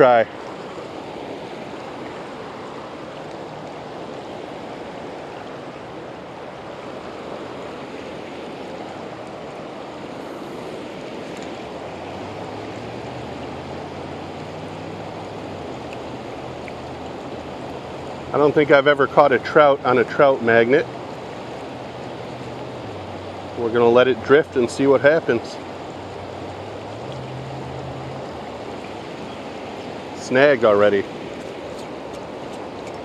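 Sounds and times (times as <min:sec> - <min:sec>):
fast-flowing river rushing: 0:00.0 - 0:33.0.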